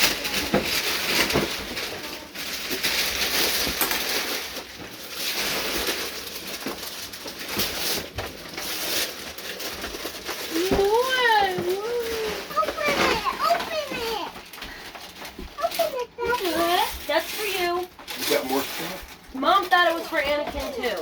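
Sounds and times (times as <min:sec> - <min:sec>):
wrapping paper tearing and crumpling: 0:00.0 - 0:21.0.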